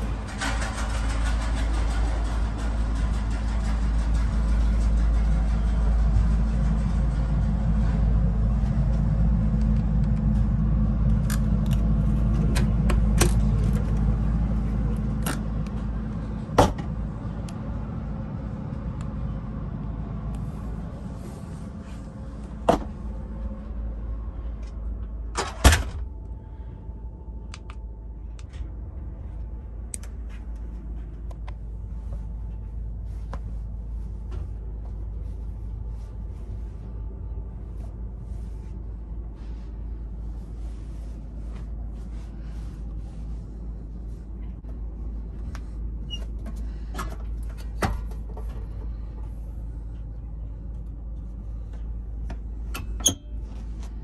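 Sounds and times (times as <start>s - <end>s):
train coach rumble: 0.0s - 54.0s.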